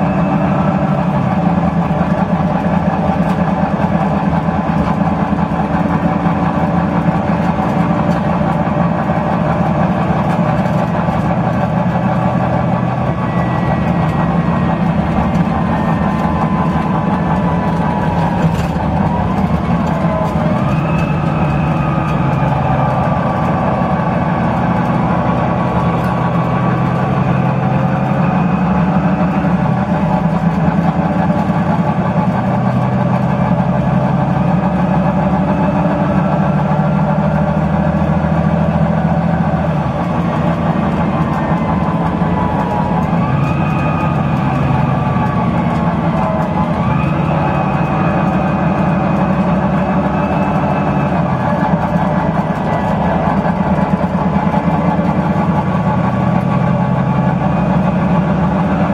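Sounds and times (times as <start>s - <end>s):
bus diesel engine running: 0.0s - 58.9s
gearbox whine: 0.0s - 58.9s.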